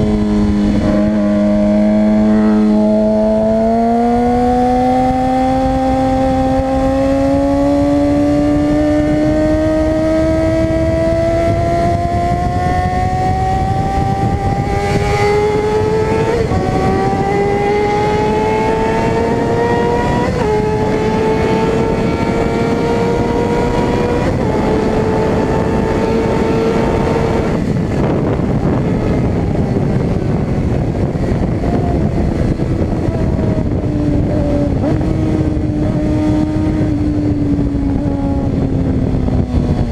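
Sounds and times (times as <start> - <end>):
motorcycle engine at high revs: 0.0 - 39.9
wind rush: 0.0 - 39.9.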